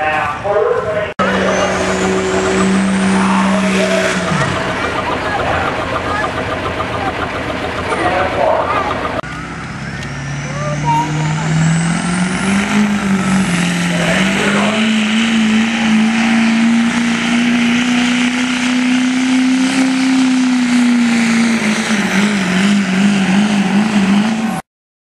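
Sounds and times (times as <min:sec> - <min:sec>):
diesel truck engine under load: 0:00.0 - 0:24.6.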